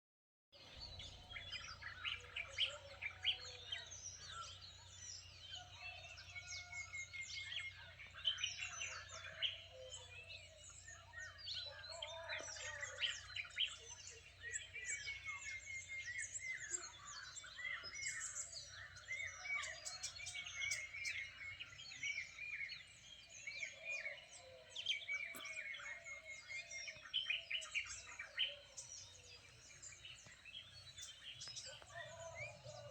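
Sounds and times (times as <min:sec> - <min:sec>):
lower bird calls: 0:00.6 - 0:32.9
many birds chirping: 0:00.6 - 0:32.9.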